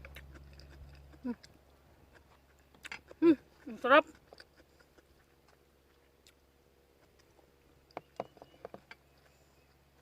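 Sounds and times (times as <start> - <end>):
close-up chewing: 0.0 - 10.0.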